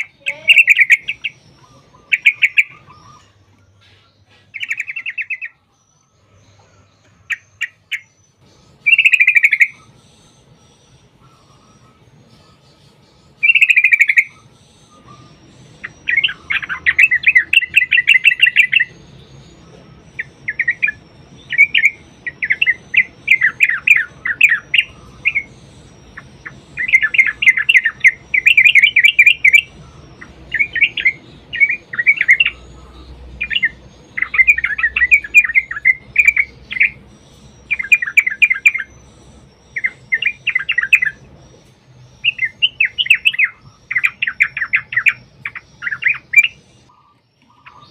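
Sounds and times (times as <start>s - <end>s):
bulbul bubbly chattering song: 0.0s - 3.5s, 7.2s - 47.9s.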